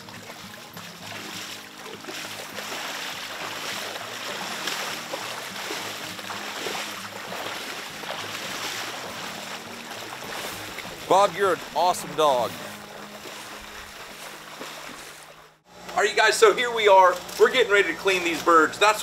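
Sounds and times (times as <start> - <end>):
loud splashes: 0.0 - 15.6
water sloshing from wading: 0.0 - 15.7.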